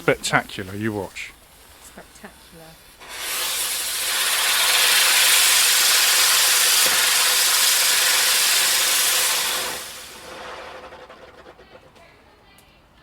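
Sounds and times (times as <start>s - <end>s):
firework hissing: 0.0s - 12.3s.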